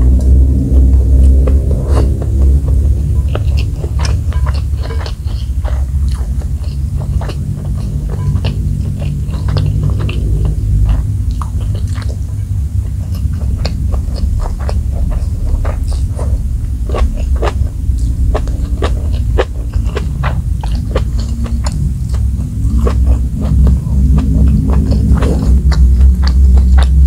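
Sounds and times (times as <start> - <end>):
steady low rumble: 0.0 - 27.0
wet chewing and lip smacks: 1.3 - 16.2, 16.9 - 27.0.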